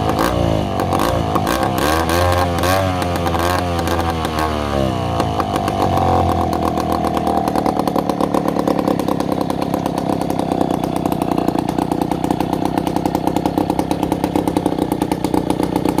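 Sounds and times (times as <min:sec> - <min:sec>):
chainsaw engine idling: 0:00.0 - 0:16.0.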